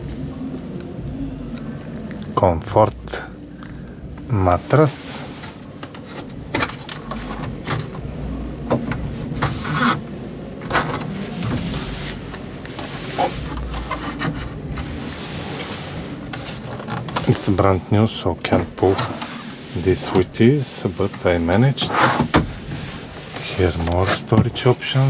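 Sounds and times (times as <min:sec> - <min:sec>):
plastic drawer scraping: 0:04.5 - 0:25.0.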